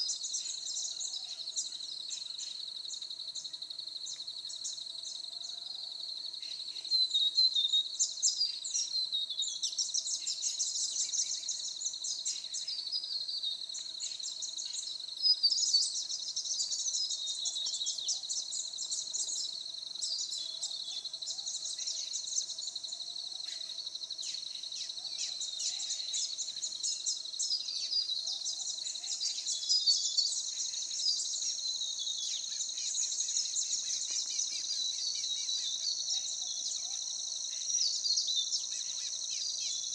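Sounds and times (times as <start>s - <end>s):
birds singing trills and chirps: 0.0s - 39.9s.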